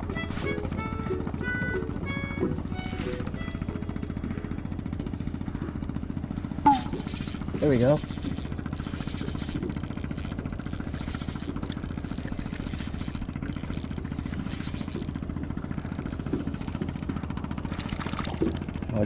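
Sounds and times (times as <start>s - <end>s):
fishing reel whirring: 0.0s - 4.7s, 6.7s - 19.0s.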